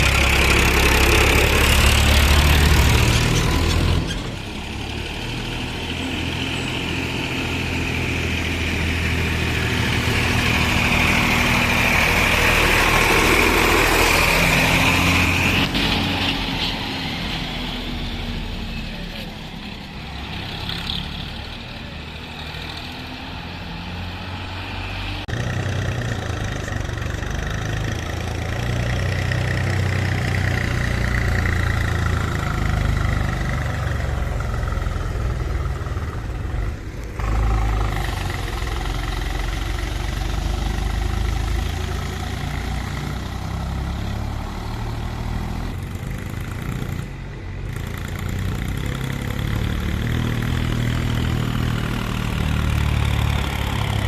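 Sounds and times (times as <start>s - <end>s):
tractor engine running: 0.0s - 23.3s, 25.2s - 54.0s.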